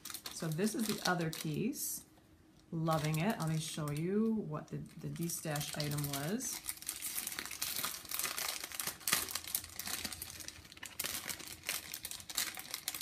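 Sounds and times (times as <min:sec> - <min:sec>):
packaging crinkling and tearing: 0:00.0 - 0:01.8, 0:02.9 - 0:04.3, 0:05.1 - 0:13.0.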